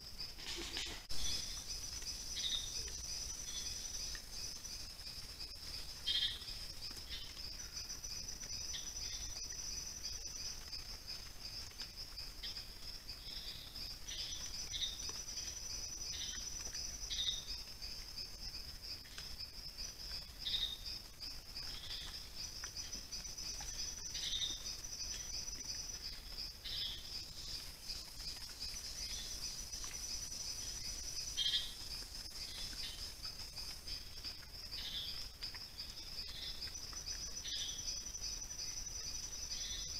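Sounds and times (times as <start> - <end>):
insect chirps: 0.0 - 39.9
night insects chorus: 0.0 - 39.9.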